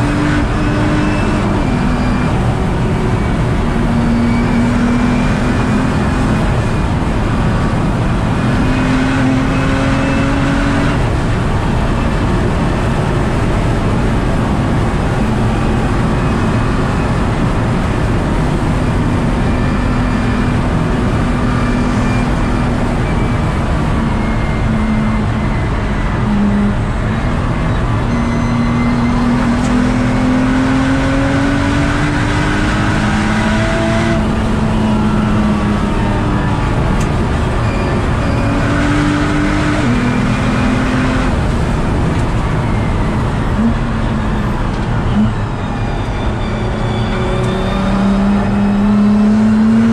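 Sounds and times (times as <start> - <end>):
car engine accelerating: 0.0 - 49.9.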